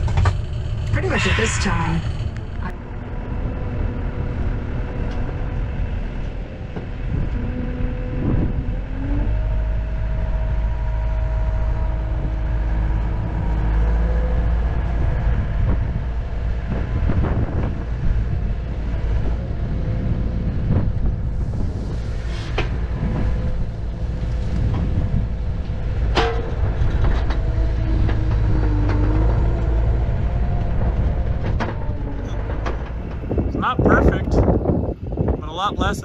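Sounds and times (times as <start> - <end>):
loader engine rumble: 0.0 - 36.0.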